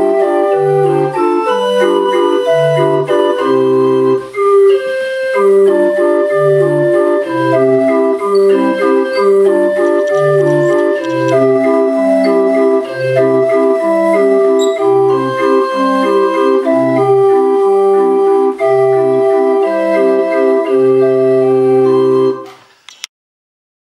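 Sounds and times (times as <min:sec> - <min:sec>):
street organ playing a tune: 0:00.0 - 0:22.6.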